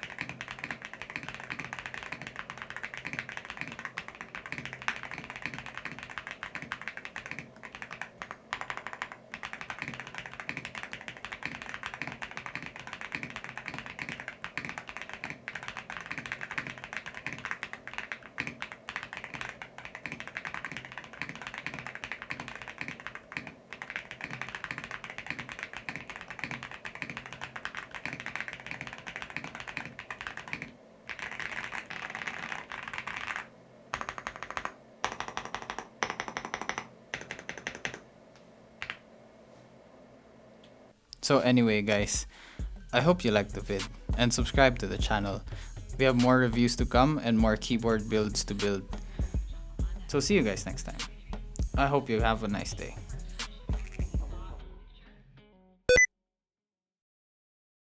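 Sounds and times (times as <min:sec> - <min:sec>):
fast typing on mechanical keyboard: 0:00.0 - 0:38.1, 0:38.8 - 0:39.0, 0:42.0 - 0:49.4, 0:50.0 - 0:54.1.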